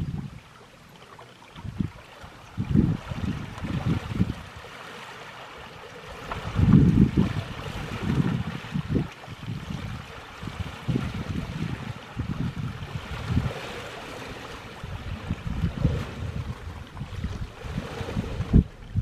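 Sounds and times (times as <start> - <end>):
wind rumble on microphone: 0.0 - 0.6, 1.4 - 19.0
river water sloshing: 0.0 - 19.0.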